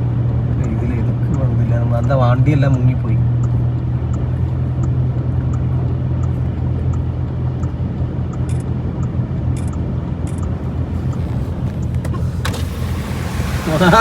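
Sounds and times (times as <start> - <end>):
vehicle engine and road noise: 0.0 - 14.0
faint regular ticking: 0.5 - 12.2.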